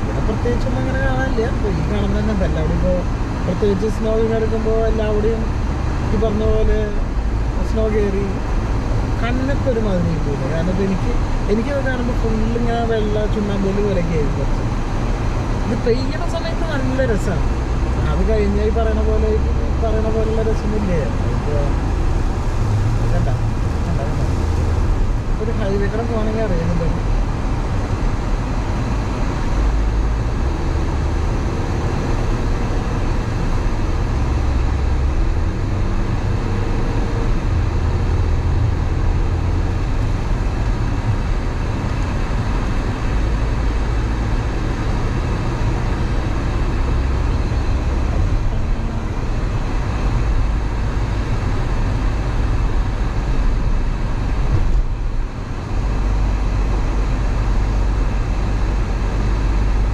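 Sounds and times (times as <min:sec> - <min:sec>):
car road noise rumble: 0:00.0 - 0:59.9.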